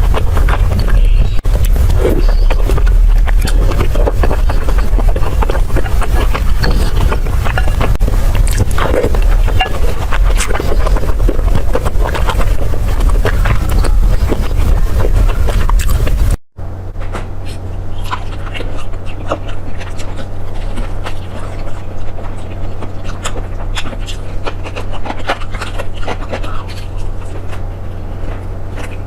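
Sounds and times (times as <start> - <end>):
chewing clicks: 0.0 - 16.4, 17.0 - 29.0
heavy low rumble: 0.0 - 29.0
steady low hum: 0.0 - 29.0.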